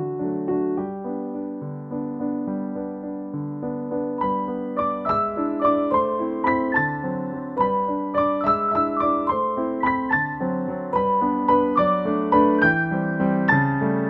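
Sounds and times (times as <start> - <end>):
keyboard background music: 0.0 - 14.0.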